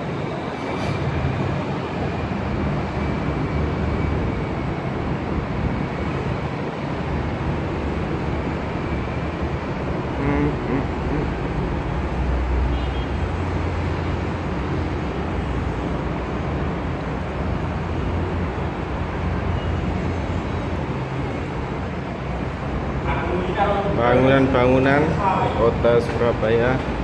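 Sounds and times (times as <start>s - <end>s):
road traffic rumble and hiss: 0.0s - 27.0s.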